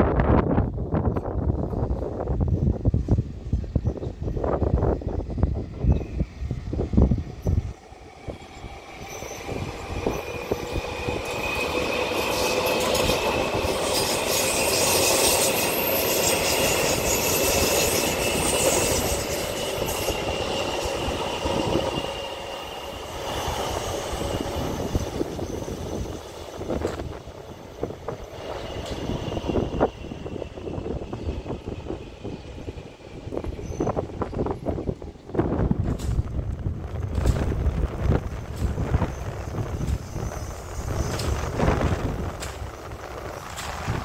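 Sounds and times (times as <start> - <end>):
electric train passing: 0.0 - 44.0.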